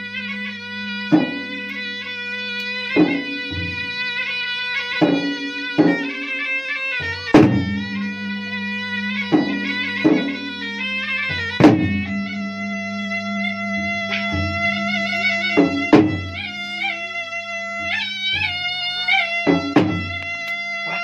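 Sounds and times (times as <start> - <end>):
droning reed pipe melody: 0.0 - 21.0
barrel drums beaten: 0.2 - 21.0.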